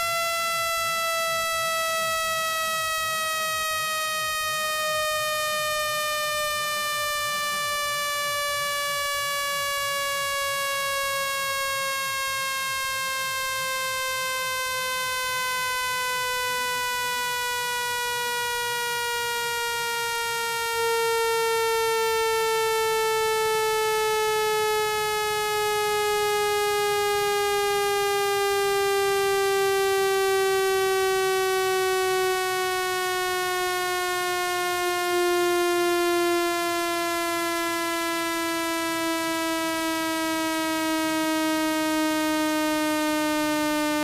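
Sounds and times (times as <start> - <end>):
buzzy electronic tone gliding down: 0.0 - 44.0.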